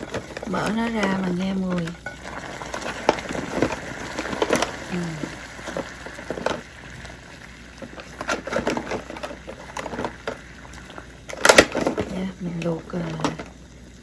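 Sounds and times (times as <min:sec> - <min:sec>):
water boiling and bubbling: 0:00.0 - 0:14.0.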